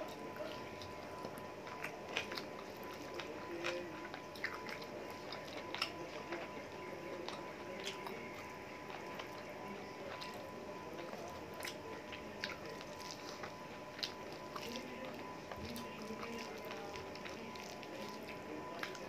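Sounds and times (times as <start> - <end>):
fingers mixing rice wet squishes: 0.0 - 19.0
person chewing: 0.0 - 19.0.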